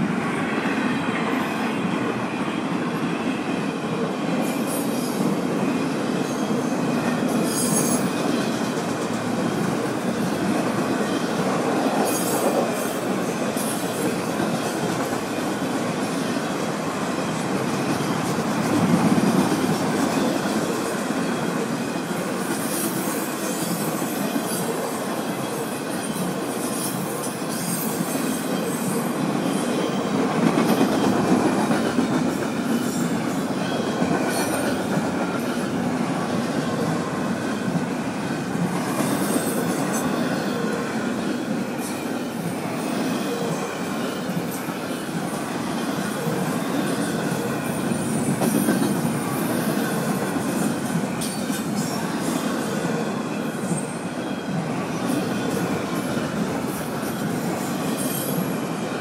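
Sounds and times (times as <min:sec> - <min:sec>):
freight train wheels rumbling: 0:00.0 - 0:59.0
train wheel flange squeals: 0:00.2 - 0:59.0.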